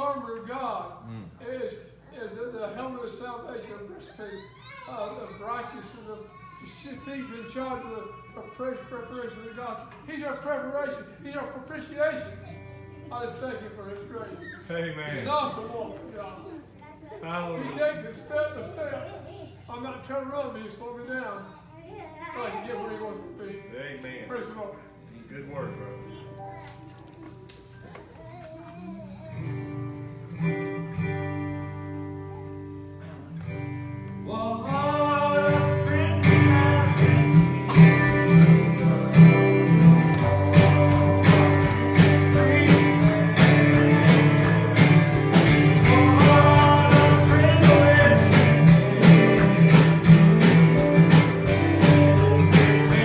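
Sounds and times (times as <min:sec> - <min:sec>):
country gospel band with guitar: 0:00.0 - 0:53.0.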